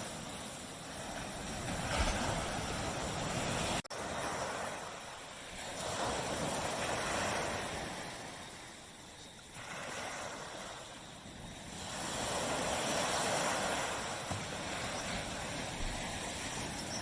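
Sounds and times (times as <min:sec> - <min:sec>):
waves breaking on a sandy beach: 0:00.0 - 0:17.0.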